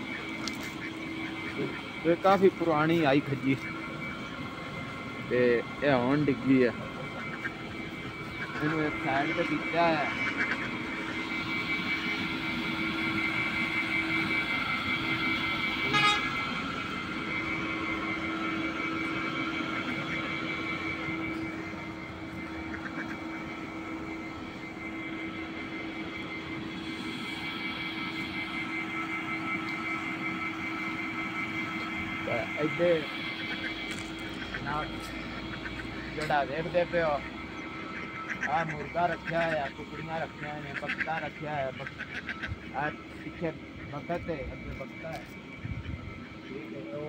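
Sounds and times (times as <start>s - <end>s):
mechanical hum and whine: 0.0s - 47.0s.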